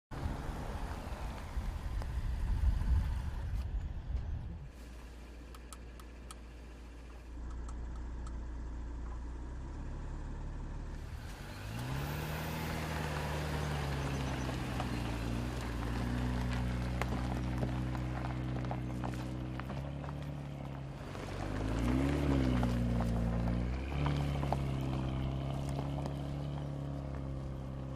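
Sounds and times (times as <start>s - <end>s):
car engine droning: 0.1s - 27.9s.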